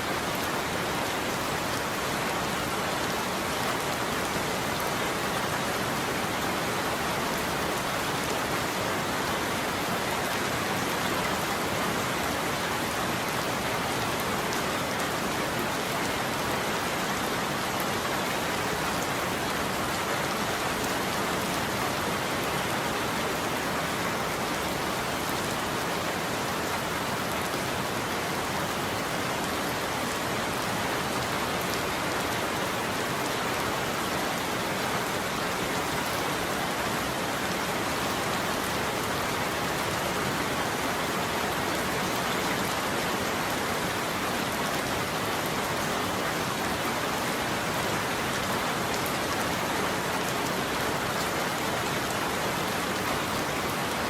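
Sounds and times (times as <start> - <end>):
rain on a roof: 0.0 - 54.0.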